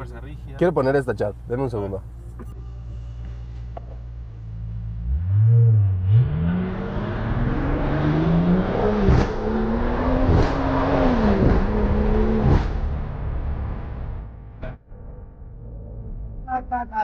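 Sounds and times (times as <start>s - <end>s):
car engine accelerating: 2.0s - 17.0s.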